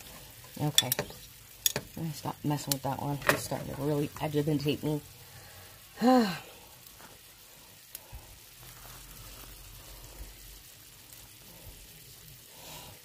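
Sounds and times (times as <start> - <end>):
water heating hiss: 0.0 - 13.0.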